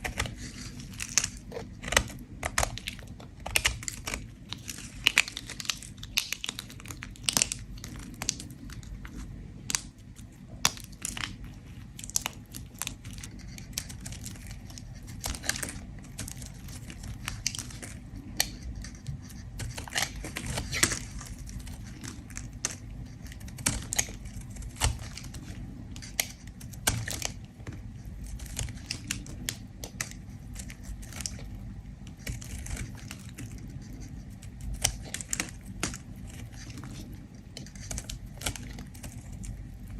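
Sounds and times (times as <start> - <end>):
soap scraping and crackling: 0.0 - 39.9
steady low hum: 0.0 - 39.9.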